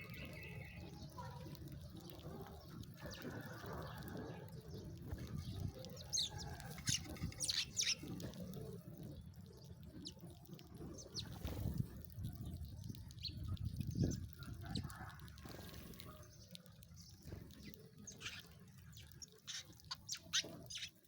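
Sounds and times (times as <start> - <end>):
sparrows chirping: 0.0 - 11.6, 12.3 - 21.0.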